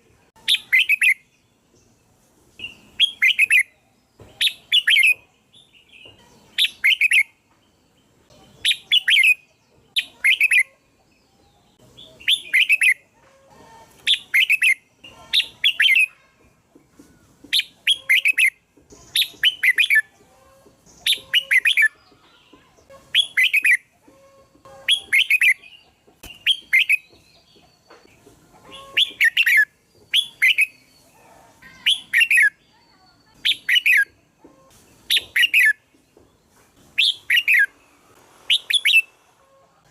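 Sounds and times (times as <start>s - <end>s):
bird singing warbled phrases: 0.2s - 2.0s, 2.6s - 13.2s, 14.0s - 16.5s, 17.2s - 36.4s, 37.0s - 37.9s.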